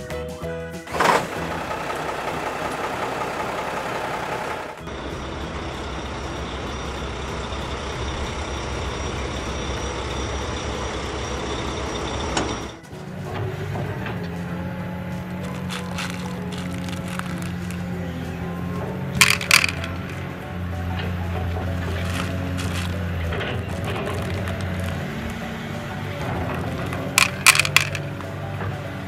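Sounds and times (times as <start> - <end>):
truck engine running: 0.9 - 29.0.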